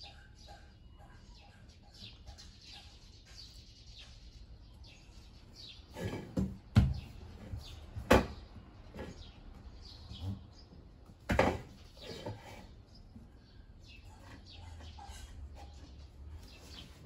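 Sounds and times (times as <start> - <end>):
small birds chirping faintly: 0.0 - 17.0.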